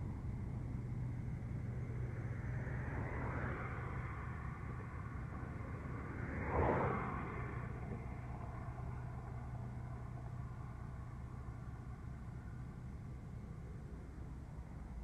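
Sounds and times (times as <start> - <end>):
low engine rumble: 0.0 - 15.0
low hum: 0.0 - 15.0.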